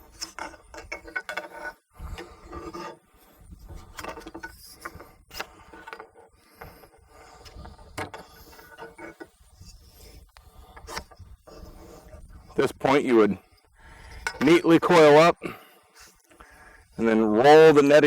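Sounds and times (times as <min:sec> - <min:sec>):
tubing rubbing and scraping: 0:00.0 - 0:18.0.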